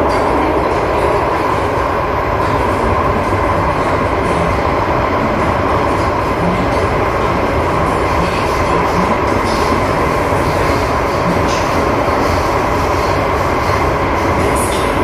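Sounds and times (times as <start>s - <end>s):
steady train hum: 0.0s - 15.0s
train wheels on rail: 0.0s - 15.0s.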